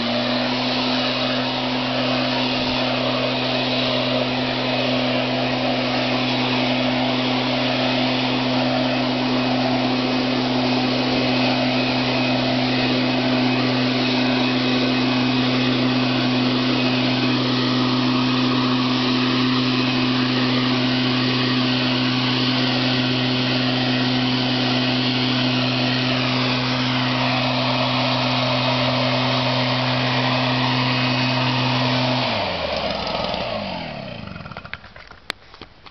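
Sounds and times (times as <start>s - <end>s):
leaf blower engine droning: 0.0s - 35.9s.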